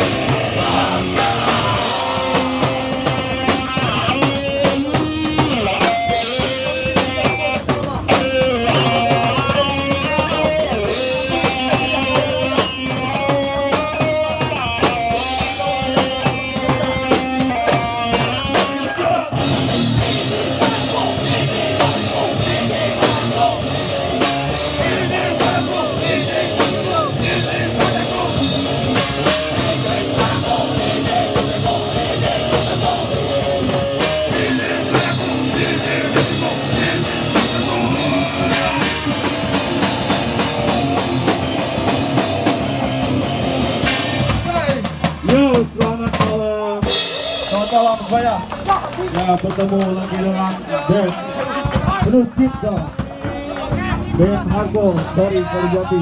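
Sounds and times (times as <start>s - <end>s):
punk band playing live: 0.0s - 56.0s.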